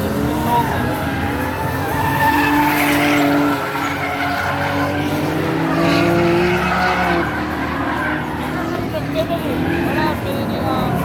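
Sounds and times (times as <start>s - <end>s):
car engine revving: 0.0s - 11.0s
tyres skidding: 0.0s - 11.0s.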